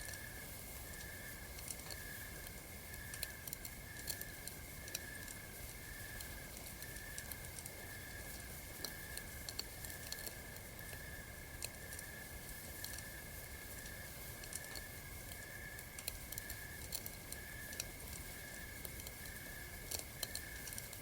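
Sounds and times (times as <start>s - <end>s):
campfire crackling and popping: 0.0s - 21.0s
night insects chirping: 0.0s - 21.0s.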